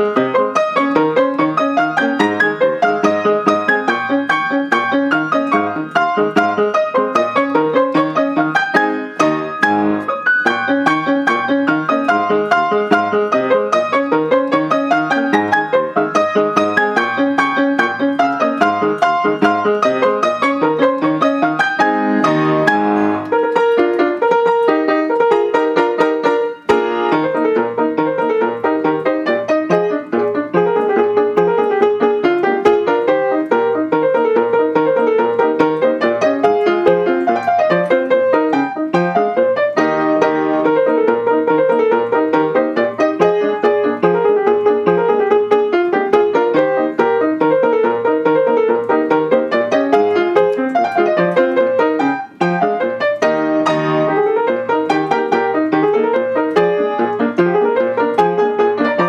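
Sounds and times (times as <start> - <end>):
solo piano march: 0.0 - 59.0.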